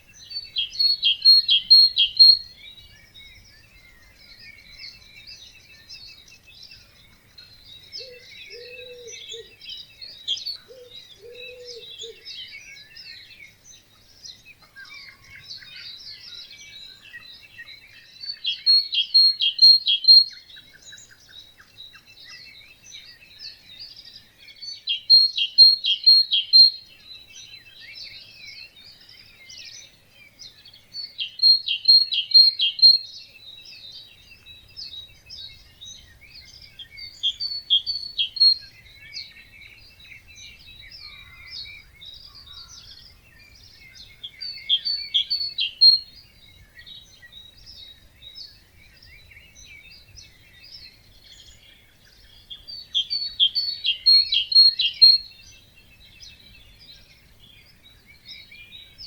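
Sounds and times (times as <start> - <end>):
birds chirping and calling: 0.0 - 59.0
loud bird song phrase: 0.0 - 59.0.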